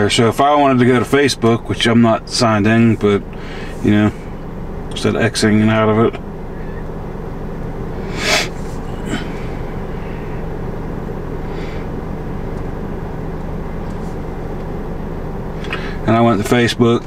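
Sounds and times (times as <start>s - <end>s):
car climate blower humming: 0.0s - 17.0s.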